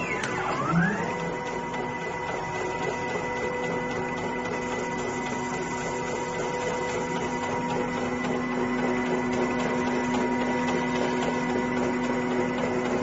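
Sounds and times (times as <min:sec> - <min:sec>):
constant mechanical noise: 0:00.0 - 0:13.0
machine motor whine: 0:00.0 - 0:13.0.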